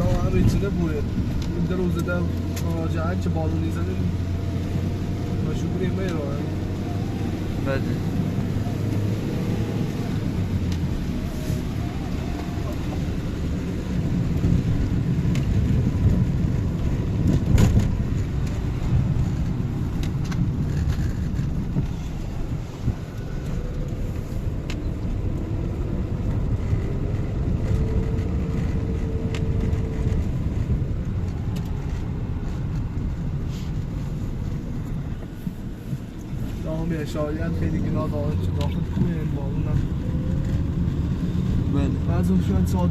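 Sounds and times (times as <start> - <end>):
city street traffic rumble: 0.0 - 42.9.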